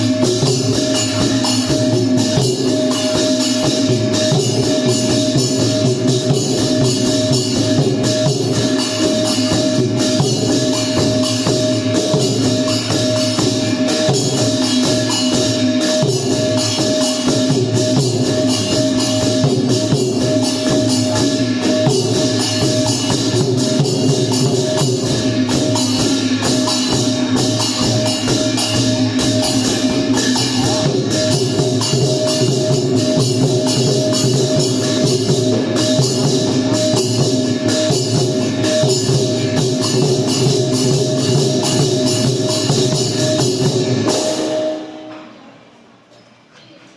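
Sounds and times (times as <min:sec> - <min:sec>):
long drums playing rhythm: 0:00.0 - 0:45.4
hand cymbals clashing: 0:00.0 - 0:45.6.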